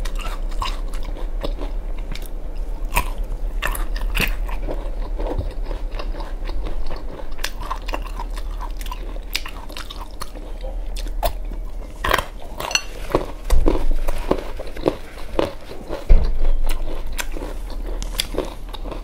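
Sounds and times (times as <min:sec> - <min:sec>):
garlic crunching when chewed: 0:00.0 - 0:19.0.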